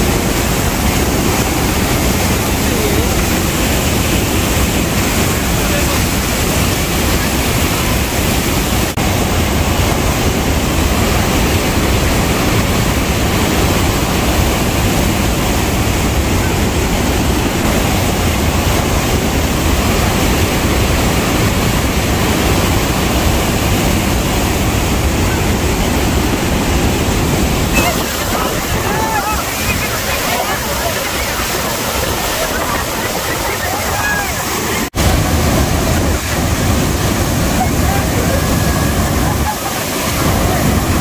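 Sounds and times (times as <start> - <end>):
waterfall roaring onto rocks: 0.0 - 41.0.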